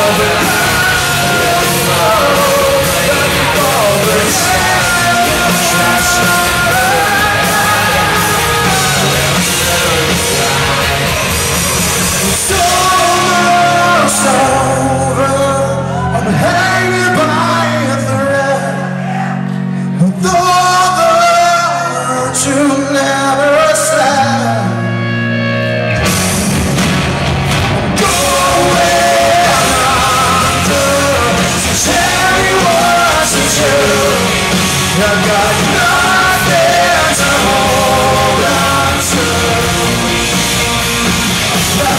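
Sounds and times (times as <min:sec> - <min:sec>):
man singing lead vocals: 0:00.0 - 0:25.1, 0:27.9 - 0:41.9
live rock band playing: 0:00.0 - 0:41.9.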